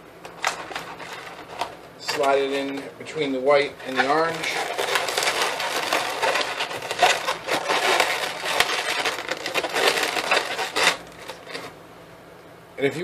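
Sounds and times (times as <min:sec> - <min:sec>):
balloons squeaking and creaking: 0:00.4 - 0:02.7, 0:03.5 - 0:11.7.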